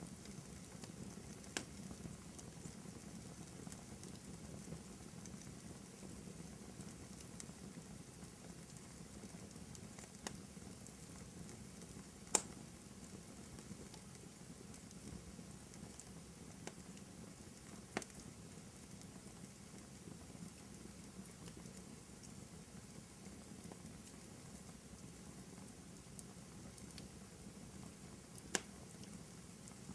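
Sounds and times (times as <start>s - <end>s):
wood fire crackling: 0.0s - 29.9s
fire popping: 0.1s - 29.9s.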